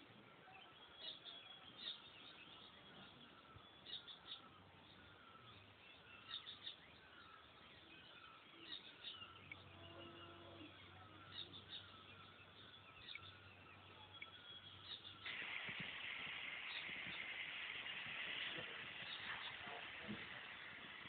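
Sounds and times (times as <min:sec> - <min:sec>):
birds chirping: 0:00.0 - 0:21.0
low steady hiss: 0:00.0 - 0:21.0.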